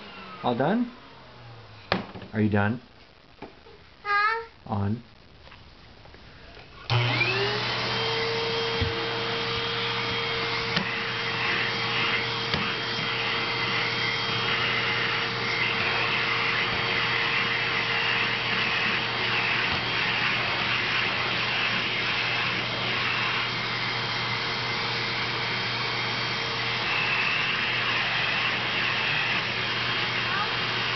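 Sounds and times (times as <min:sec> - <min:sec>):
vacuum cleaner motor running: 0:00.0 - 0:01.7, 0:06.8 - 0:30.9.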